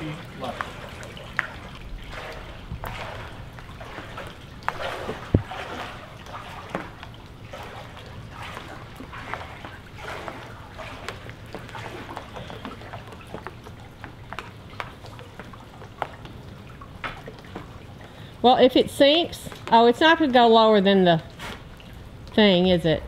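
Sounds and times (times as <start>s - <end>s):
small splashes and drips: 0.0s - 22.8s
water trickling and lapping: 0.0s - 23.0s.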